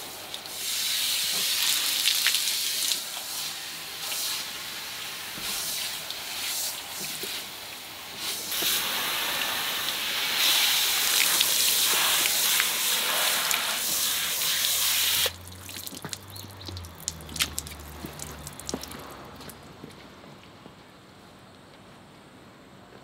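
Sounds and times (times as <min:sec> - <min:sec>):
hose water spraying on car: 0:00.0 - 0:19.6
water dripping off panels: 0:00.0 - 0:20.0.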